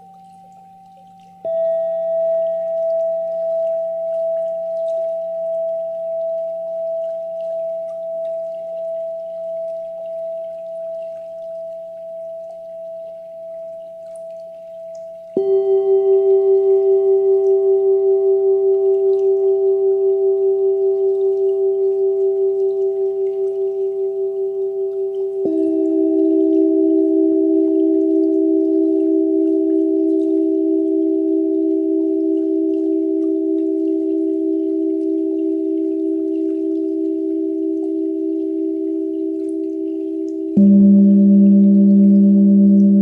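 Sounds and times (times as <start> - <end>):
lower singing bowl struck: 0.0 - 9.9, 15.3 - 43.0
meditation bell ringing: 0.0 - 43.0.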